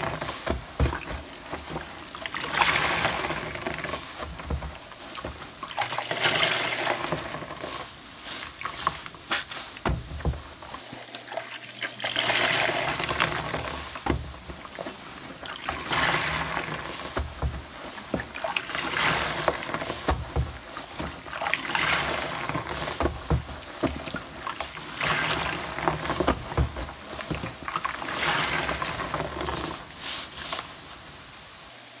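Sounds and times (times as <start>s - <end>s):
sponge squeezed gushing water: 0.0s - 31.7s
water fizzing and dripping: 0.0s - 32.0s.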